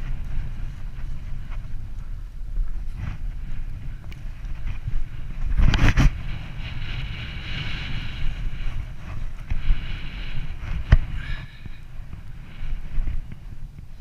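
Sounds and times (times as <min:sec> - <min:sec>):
skis scraping packed snow: 0:00.0 - 0:14.0
wind rumbling on microphone: 0:00.0 - 0:14.0.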